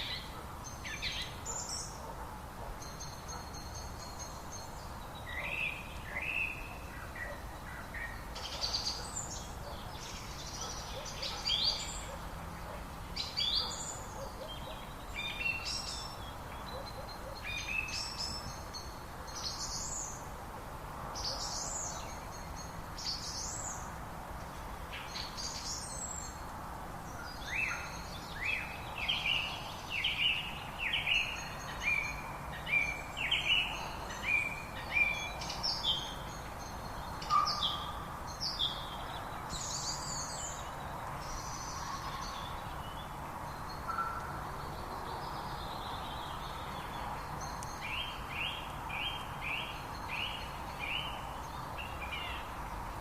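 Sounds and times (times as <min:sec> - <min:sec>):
birds chirping: 0:00.0 - 0:20.2, 0:27.1 - 0:52.7
steady background hiss: 0:00.0 - 0:53.0.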